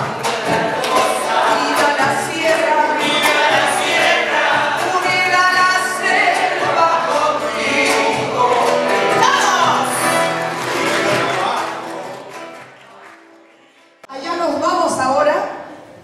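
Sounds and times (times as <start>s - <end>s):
choir singing with music: 0.0s - 14.0s.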